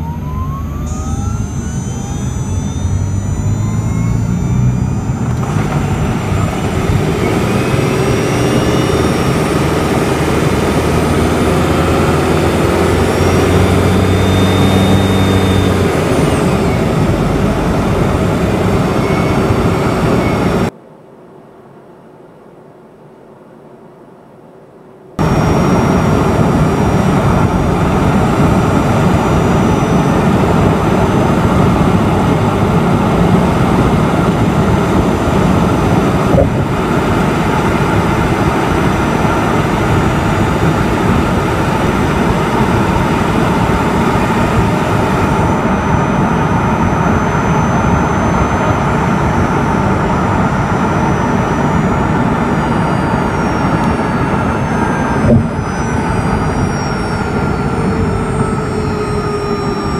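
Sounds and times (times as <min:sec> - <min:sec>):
electric motor whine: 0:00.0 - 0:20.7, 0:25.2 - 0:59.9
car engine drone: 0:00.0 - 0:22.3, 0:25.0 - 0:59.9.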